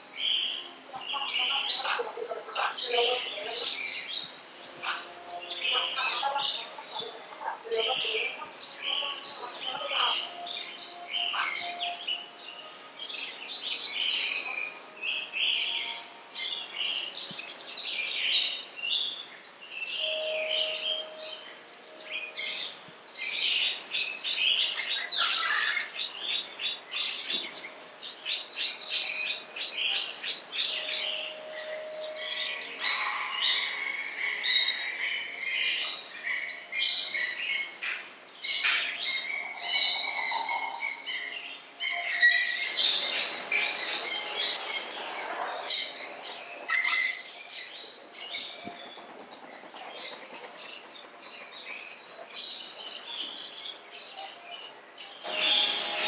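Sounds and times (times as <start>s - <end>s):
birds chirping chorus: 0.0s - 56.0s.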